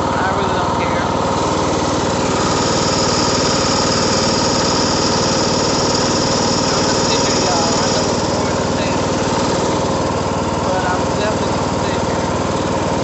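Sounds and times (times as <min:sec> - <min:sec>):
high steady whine: 0:00.0 - 0:13.0
lawn mower engine chugging: 0:00.0 - 0:13.0.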